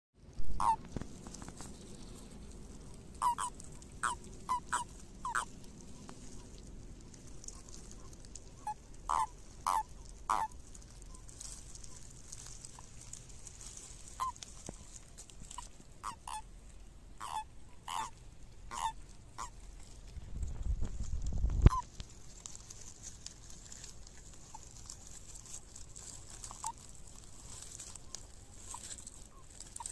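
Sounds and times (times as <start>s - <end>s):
toads croaking: 0.5s - 19.9s, 21.6s - 29.9s.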